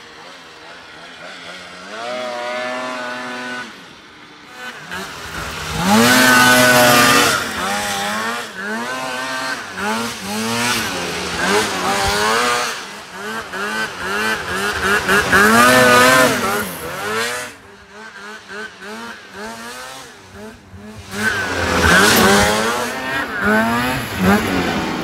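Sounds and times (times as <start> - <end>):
snowmobile engine revving: 0.0 - 25.0.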